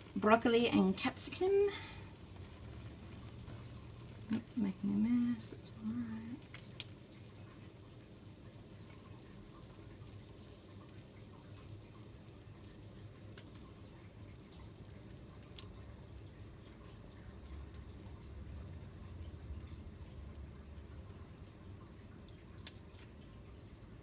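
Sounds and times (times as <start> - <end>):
saucepan bubbling: 0.0 - 24.0.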